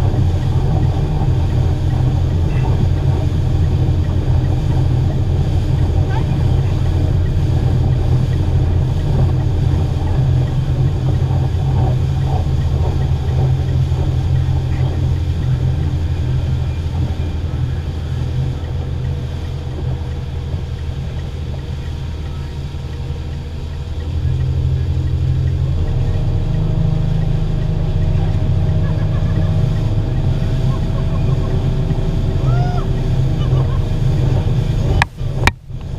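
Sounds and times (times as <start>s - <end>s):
outboard motor running: 0.0s - 35.9s
wake water splashing: 0.0s - 35.9s
wind: 0.0s - 35.9s.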